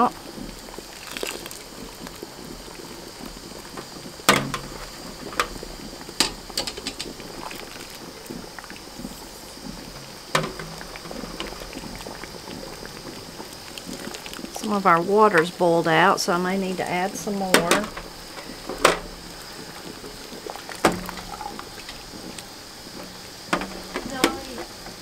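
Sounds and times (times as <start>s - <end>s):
boiling water bubbling: 0.0s - 25.0s.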